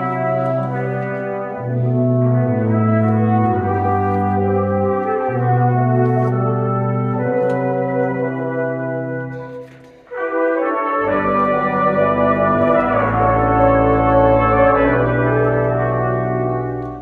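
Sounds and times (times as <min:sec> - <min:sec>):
brass quintet playing chords: 0:00.0 - 0:17.0.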